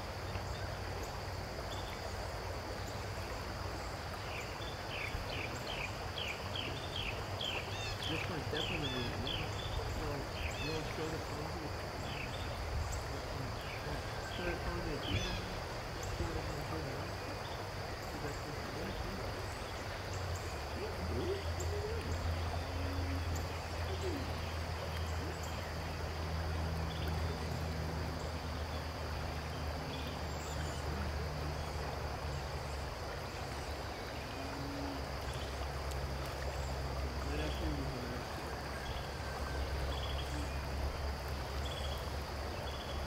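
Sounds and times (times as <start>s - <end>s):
high insect drone: 0.0s - 43.0s
river water rushing over gravel: 0.0s - 43.0s.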